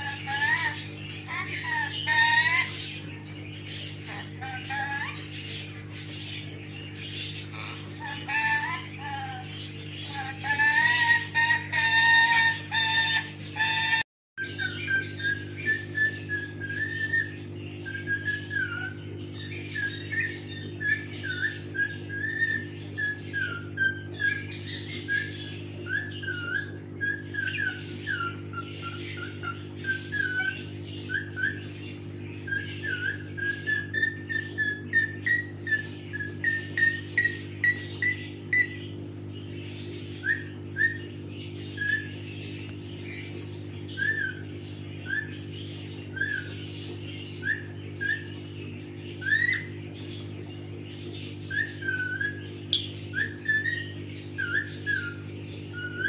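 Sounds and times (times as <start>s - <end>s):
parrot whistling: 0.0s - 5.8s, 7.2s - 31.8s, 32.4s - 38.8s, 40.2s - 41.1s, 43.9s - 45.5s, 46.1s - 46.6s, 47.3s - 48.3s, 49.2s - 49.8s, 51.4s - 56.0s
steady low hum: 0.0s - 56.0s.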